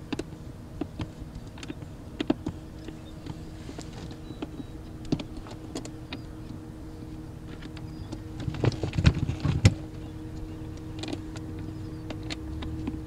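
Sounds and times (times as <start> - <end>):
hands clicking motor controls: 0.0 - 6.6, 7.5 - 13.0
faint steady hum: 0.0 - 13.0.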